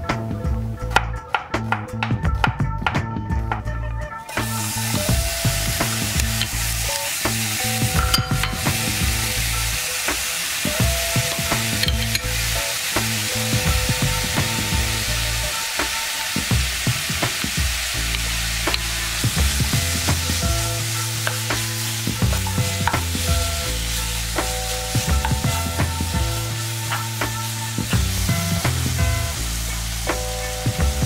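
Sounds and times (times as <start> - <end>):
meat sizzling in a frying pan: 4.3 - 31.0.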